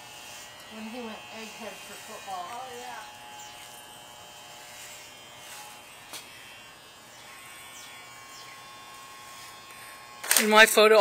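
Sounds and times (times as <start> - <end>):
electric hair clippers running: 0.0 - 11.0.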